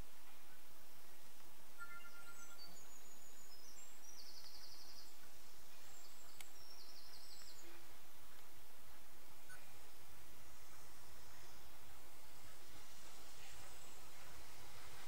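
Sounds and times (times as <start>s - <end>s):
faint low rumble: 0.0s - 15.0s
small birds chirping and trilling: 0.2s - 15.0s.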